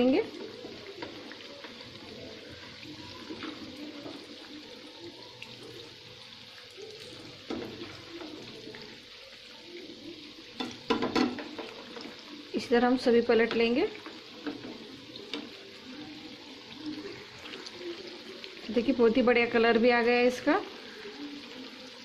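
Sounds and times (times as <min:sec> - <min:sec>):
batter sizzling in hot oil: 0:00.0 - 0:22.0.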